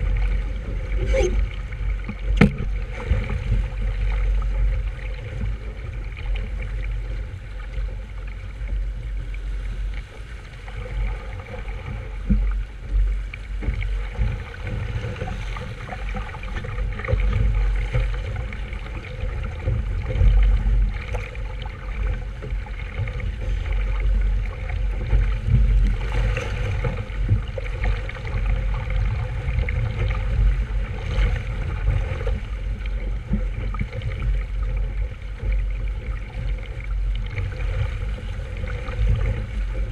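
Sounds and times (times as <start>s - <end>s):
water gurgling along hull: 0.0s - 39.9s
wind rumble on microphone: 0.0s - 39.9s.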